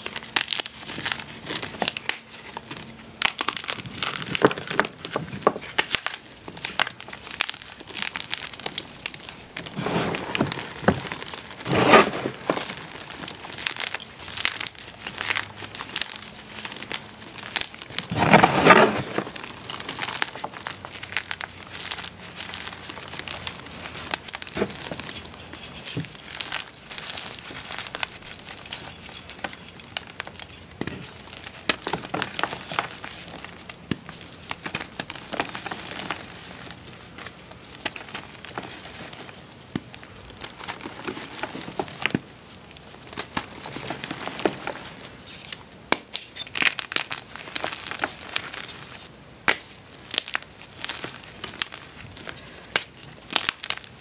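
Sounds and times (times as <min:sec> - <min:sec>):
hands crushing chalk: 0:00.0 - 0:54.0.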